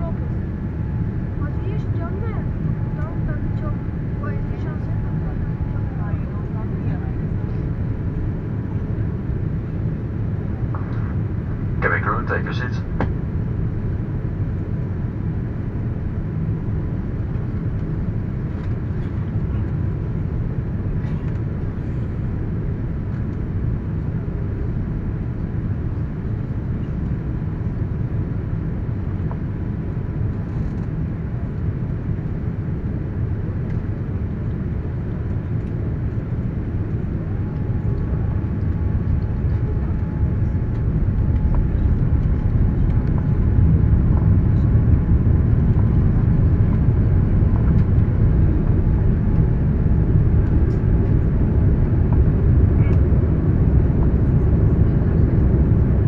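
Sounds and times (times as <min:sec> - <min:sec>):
airliner cabin rumble: 0:00.0 - 0:56.0
faint steady whine: 0:00.0 - 0:56.0.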